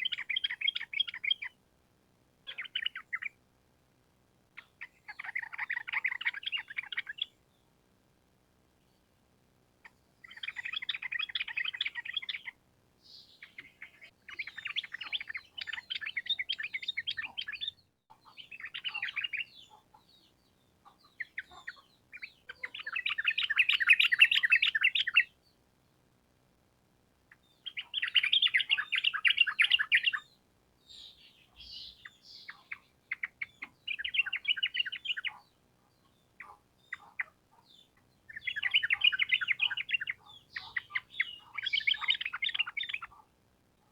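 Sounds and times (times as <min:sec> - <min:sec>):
bird chattering song: 0:00.0 - 0:01.6, 0:02.5 - 0:03.4, 0:04.6 - 0:07.4, 0:09.8 - 0:25.4, 0:27.3 - 0:43.3.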